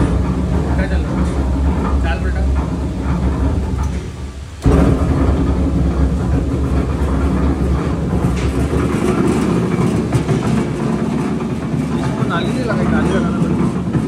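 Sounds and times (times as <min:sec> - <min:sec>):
feed mixer machinery rumble: 0:00.0 - 0:14.0.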